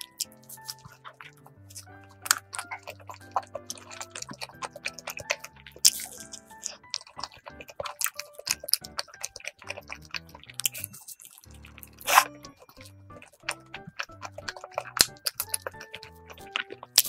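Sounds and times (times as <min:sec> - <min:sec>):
background music: 0:00.0 - 0:17.0
loud bite: 0:00.0 - 0:17.0
wet chewing and mouth sounds: 0:00.0 - 0:17.0.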